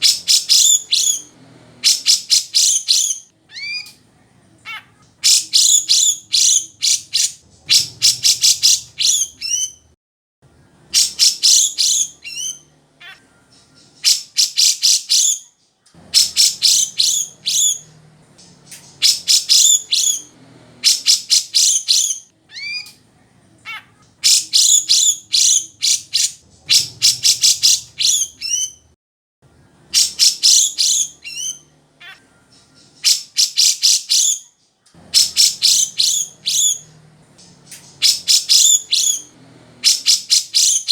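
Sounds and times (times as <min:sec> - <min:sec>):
bird chattering song: 0:00.0 - 0:09.9, 0:10.5 - 0:23.0, 0:23.6 - 0:28.9, 0:29.5 - 0:40.9.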